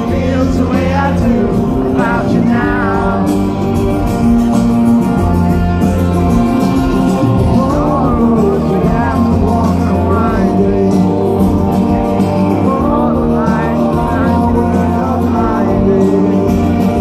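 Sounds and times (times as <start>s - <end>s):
male lead vocal: 0.0s - 3.8s, 6.4s - 17.0s
live rock band: 0.0s - 17.0s
strummed acoustic guitar: 0.0s - 17.0s.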